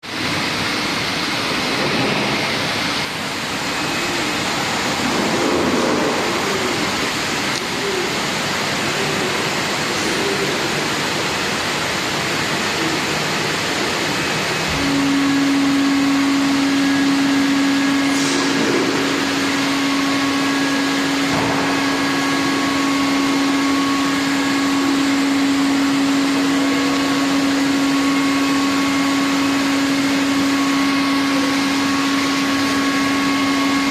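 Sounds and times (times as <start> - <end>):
blower rushing: 0.0 - 33.9
steady hum: 0.0 - 33.9.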